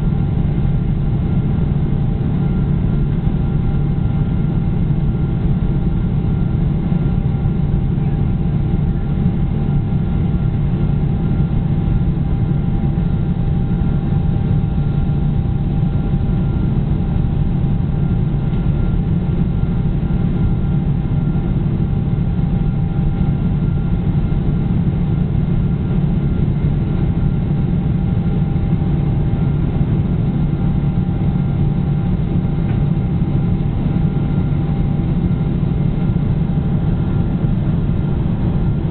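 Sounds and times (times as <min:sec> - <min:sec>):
jet engines drone in cabin: 0:00.0 - 0:38.9.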